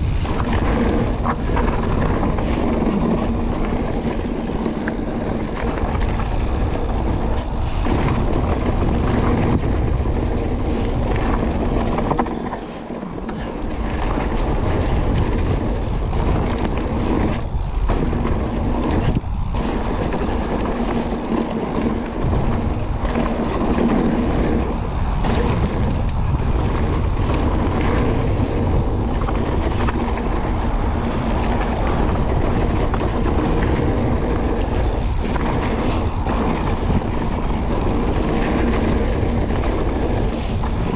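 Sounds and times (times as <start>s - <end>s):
bike rattling over bumps: 0.0s - 40.9s
bike tyres rumbling on dirt: 0.0s - 40.9s
wind on microphone: 0.0s - 40.9s.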